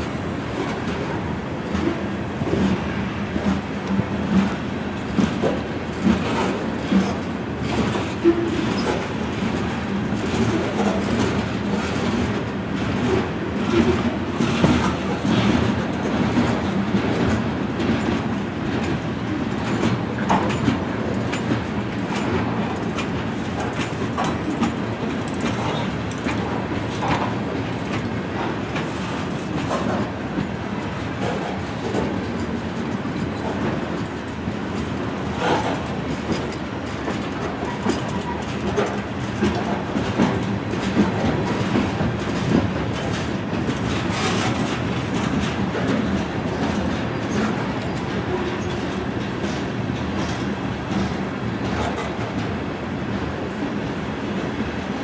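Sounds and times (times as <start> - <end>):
wheels clacking over rail joints: 0.0 - 52.6
freight train rumbling past: 0.0 - 55.0.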